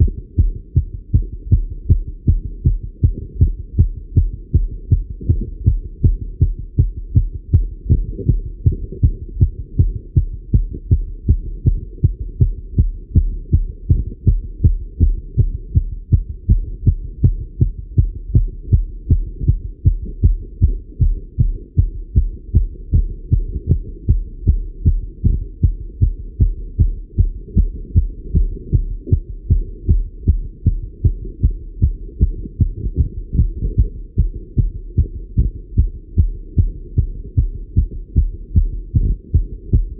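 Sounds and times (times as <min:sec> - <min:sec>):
fast heartbeat thuds: 0:00.0 - 0:39.9.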